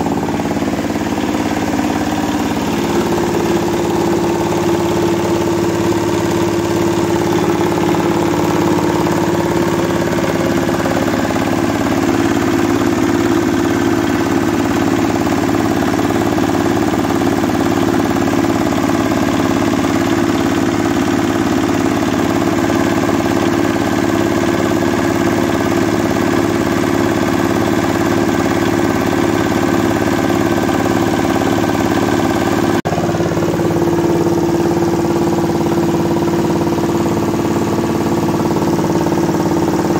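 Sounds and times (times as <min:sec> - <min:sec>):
diesel engine running: 0:00.0 - 0:39.9
rice mill running: 0:00.0 - 0:39.9.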